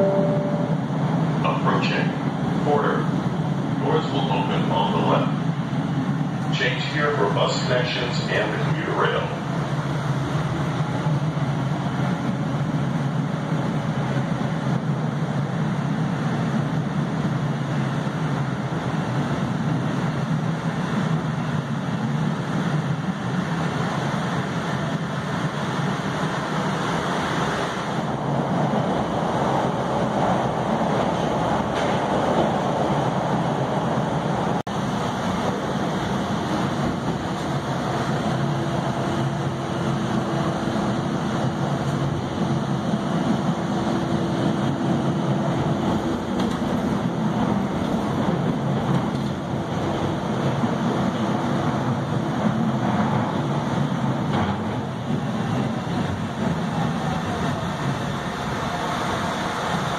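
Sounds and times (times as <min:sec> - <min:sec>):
subway car running rumble: 0:00.0 - 0:59.9.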